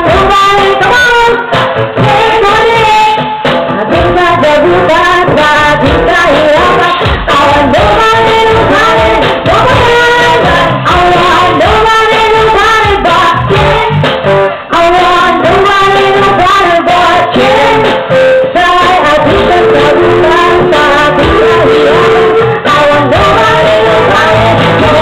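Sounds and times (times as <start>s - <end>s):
amplified band with steady beat: 0.0s - 25.0s
women singing pop song: 0.0s - 25.0s.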